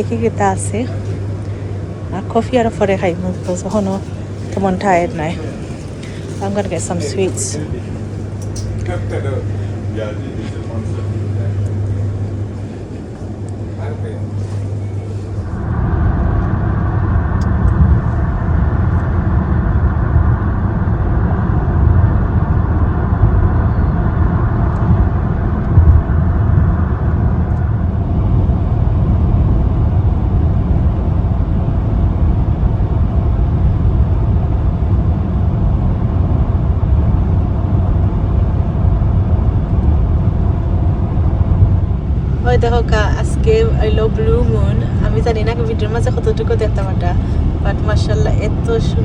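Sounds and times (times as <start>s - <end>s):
car road and engine rumble: 0.0s - 49.0s
higher hum: 0.0s - 49.0s.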